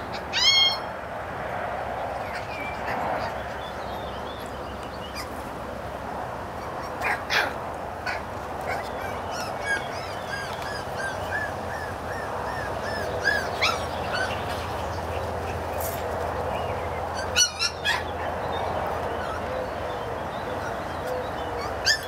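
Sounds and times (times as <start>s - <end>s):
puppies yipping and whimpering: 0.0s - 0.9s, 2.2s - 5.5s, 6.6s - 16.0s, 17.1s - 22.0s.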